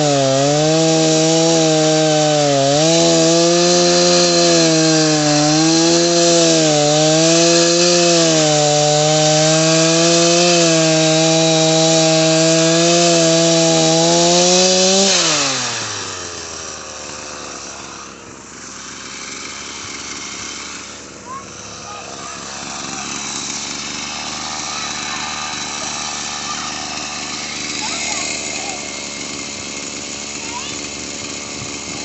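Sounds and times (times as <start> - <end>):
chainsaw cutting wood: 0.0 - 32.0
chainsaw engine idling: 0.0 - 32.0.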